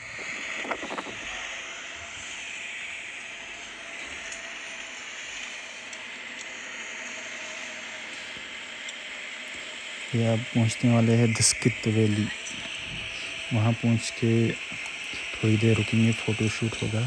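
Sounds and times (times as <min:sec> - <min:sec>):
car tyres and engine hiss: 0:00.0 - 0:17.0.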